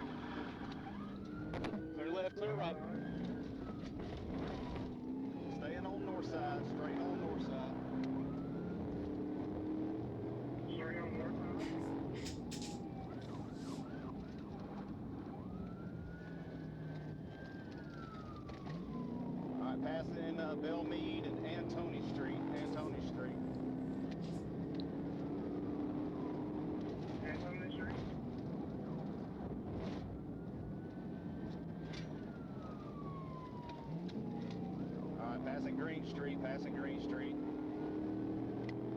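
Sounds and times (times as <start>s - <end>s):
engine and road noise: 0.0s - 38.9s
police siren: 0.0s - 38.9s
vehicle running noise: 0.0s - 38.9s.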